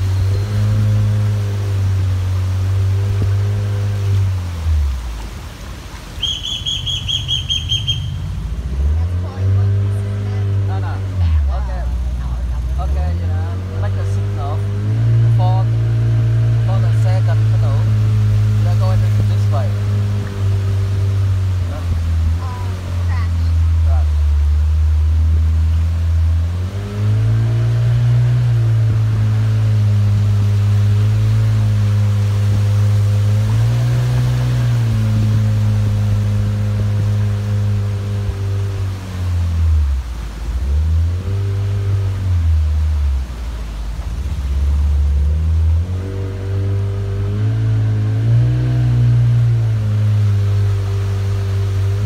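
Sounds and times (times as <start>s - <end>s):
motorboat engine: 0.0s - 52.0s.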